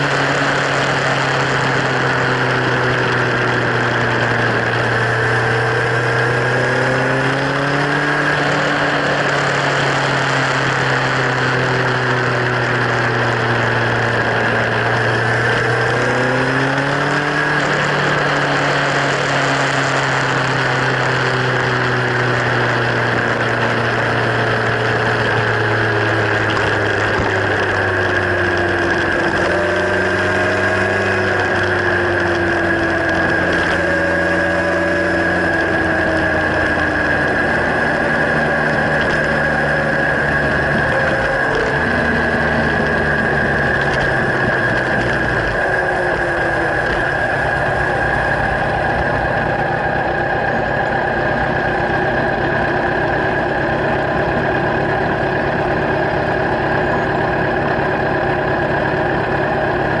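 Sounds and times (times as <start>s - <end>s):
motorcycle engine exhaust note: 0.0s - 60.0s.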